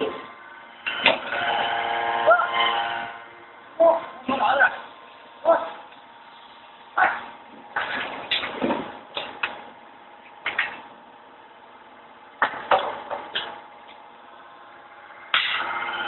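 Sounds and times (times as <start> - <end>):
machine humming and whining: 0.0 - 16.0.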